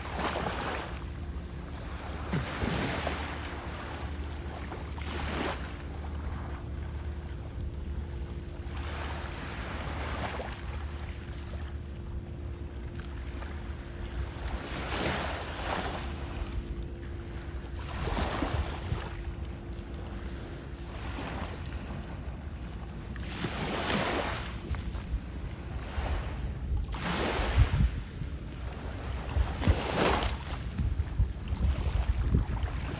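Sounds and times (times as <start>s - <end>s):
faint steady hum: 0.0s - 32.9s
small waves washing ashore: 0.0s - 32.9s
wind rumble on microphone: 0.0s - 32.9s.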